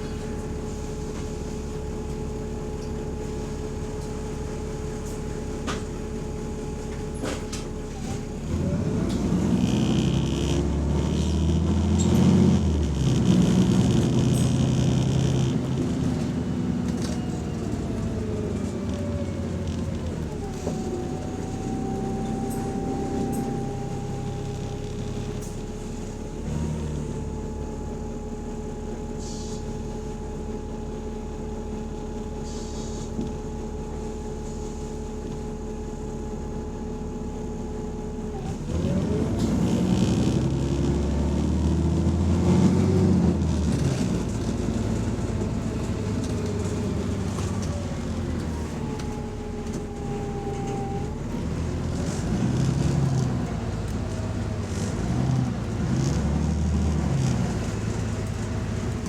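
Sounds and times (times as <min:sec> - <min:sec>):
bus engine idling: 0:00.0 - 0:10.8, 0:11.4 - 0:59.0.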